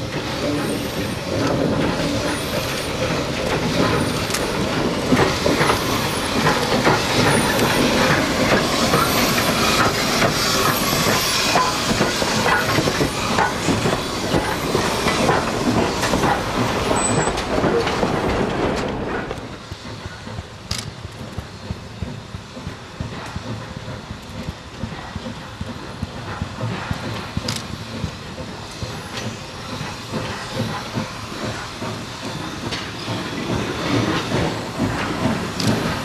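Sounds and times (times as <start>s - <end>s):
steam hissing: 0.0s - 36.0s
wheels clanking over rail joints: 0.0s - 36.0s.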